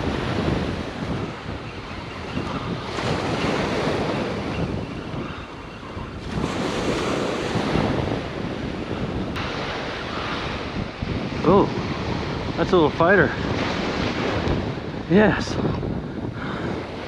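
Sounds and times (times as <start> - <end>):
small waves breaking on beach: 0.0 - 17.0
wind buffeting microphone: 0.0 - 17.0.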